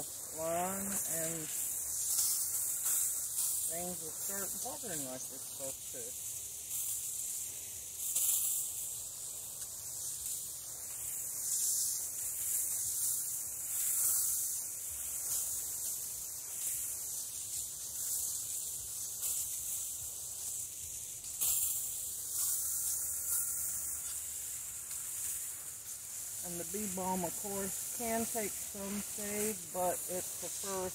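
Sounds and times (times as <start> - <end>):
hose spraying water on soil: 0.0 - 30.9.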